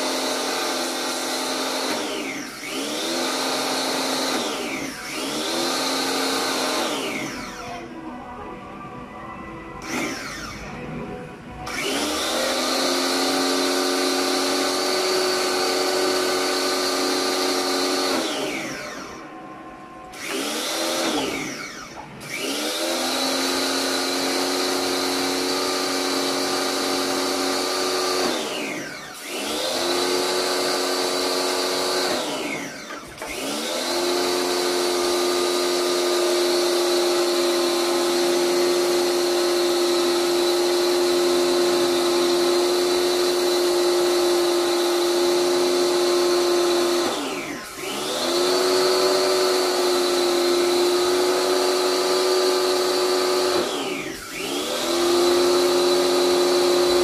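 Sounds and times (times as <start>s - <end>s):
pressure washer motor whine: 0.0s - 57.0s.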